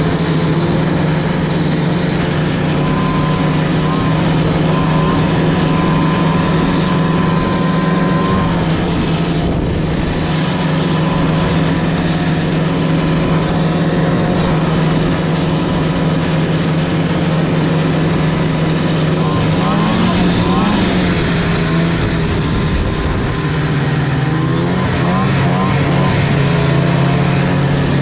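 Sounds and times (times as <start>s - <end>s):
snowmobile engine drone: 0.0s - 28.0s.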